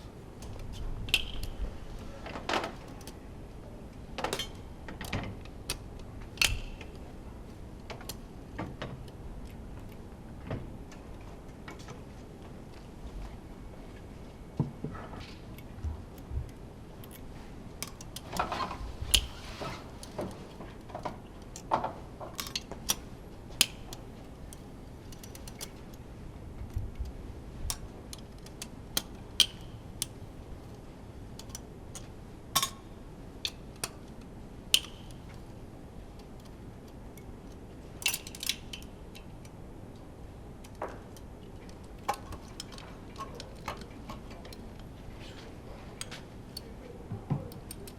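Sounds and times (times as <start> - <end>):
steady low hiss: 0.0 - 47.9.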